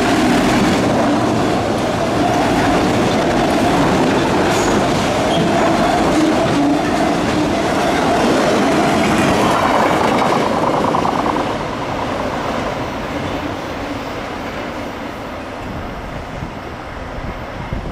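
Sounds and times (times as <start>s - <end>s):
freight train wheels on rails: 0.0s - 17.9s.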